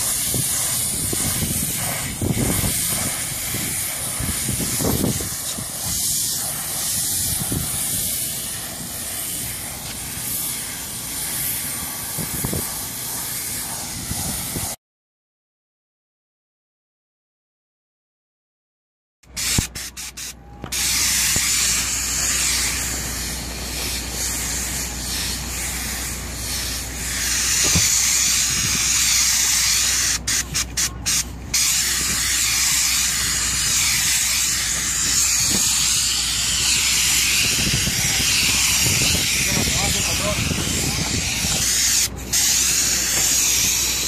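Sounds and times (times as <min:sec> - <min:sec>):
spray gun hissing: 0:00.0 - 0:14.8, 0:19.4 - 0:44.0.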